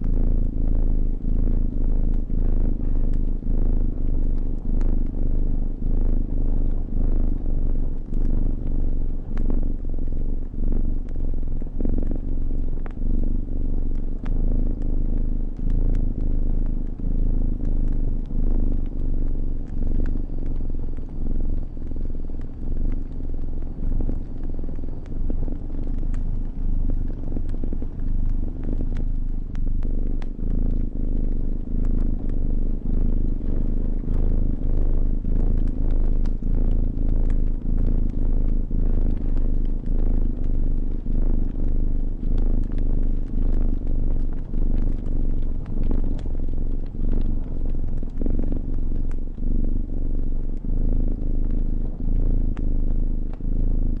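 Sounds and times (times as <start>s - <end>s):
cat purring: 0.0s - 54.0s
wood fire crackling: 0.1s - 51.4s.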